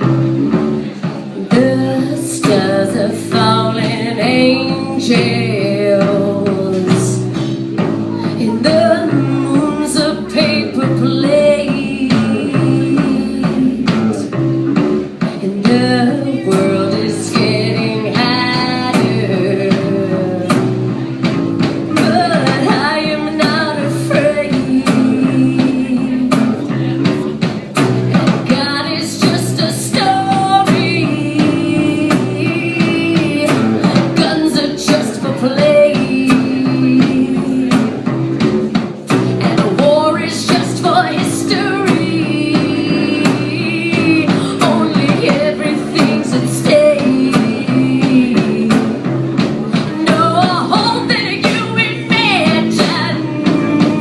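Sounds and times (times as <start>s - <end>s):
person singing: 0.0s - 21.1s, 21.9s - 27.3s, 28.5s - 38.4s, 39.3s - 54.0s
live rock band: 0.0s - 54.0s.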